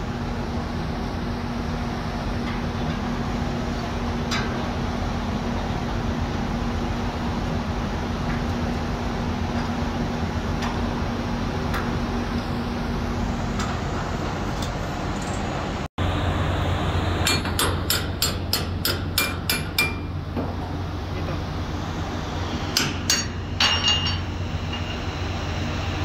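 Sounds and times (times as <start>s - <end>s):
shipboard machinery rumble: 0.0s - 26.0s.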